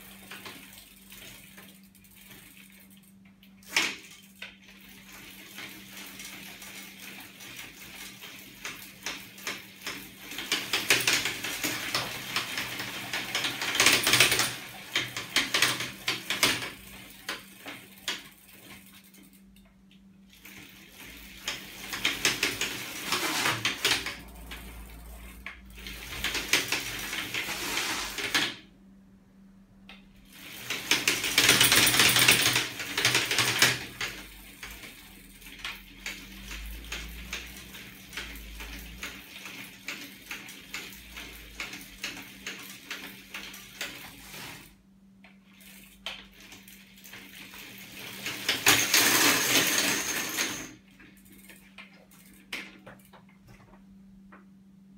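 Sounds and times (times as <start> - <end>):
metallic clattering linkage mechanism: 0.0 - 19.7, 20.4 - 28.6, 30.2 - 44.7, 45.5 - 53.2.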